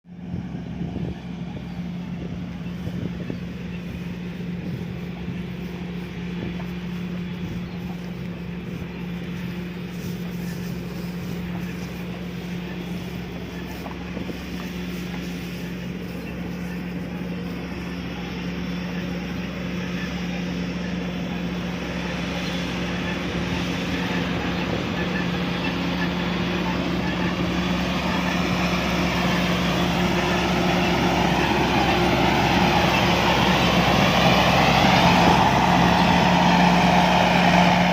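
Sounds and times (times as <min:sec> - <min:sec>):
combine harvester engine drone: 0:00.0 - 0:37.9.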